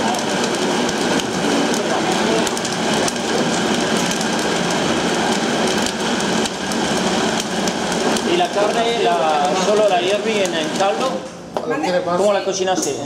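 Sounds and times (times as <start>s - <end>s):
steady rush of kitchen noise: 0.0s - 13.0s.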